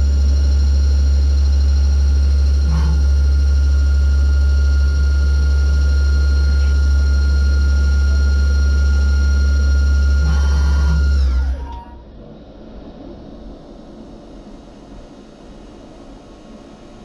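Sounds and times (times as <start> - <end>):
high machine whine: 0.0 - 17.0
machine hum: 0.0 - 17.0.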